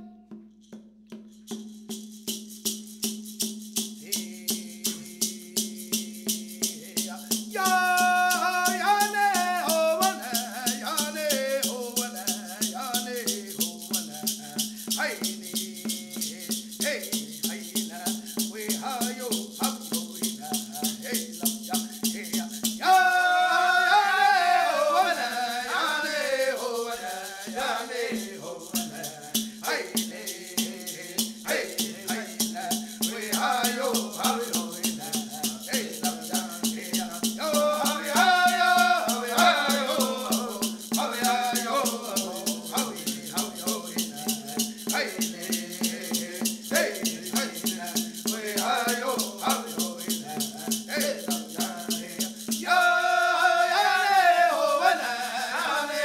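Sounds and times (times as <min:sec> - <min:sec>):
shaken rattle: 0:00.2 - 0:56.0
voices singing: 0:04.0 - 0:56.0.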